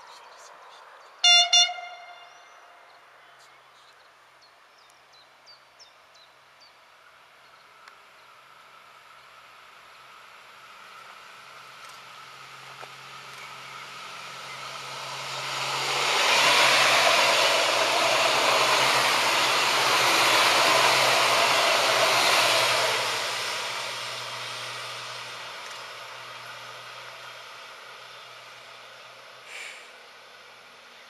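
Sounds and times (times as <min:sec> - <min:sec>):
diesel train passing: 0:00.0 - 0:03.2, 0:06.3 - 0:31.0.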